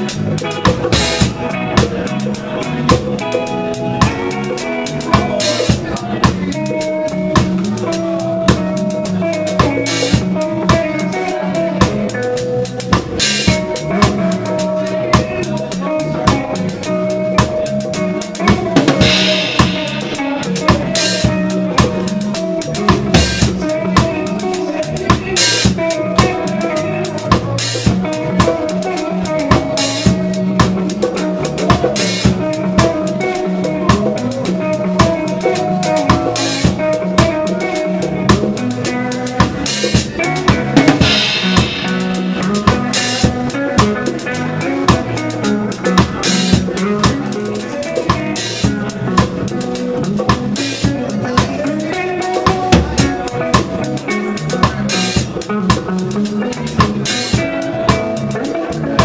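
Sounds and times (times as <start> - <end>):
drum kit hits and cymbals: 0.0 - 59.0
reggae band playing: 0.0 - 59.0.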